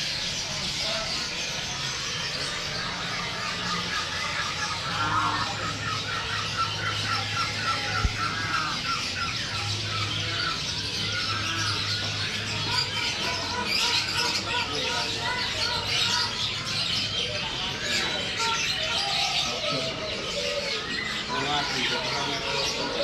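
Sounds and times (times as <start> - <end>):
caged birds chirping: 0.0 - 23.0.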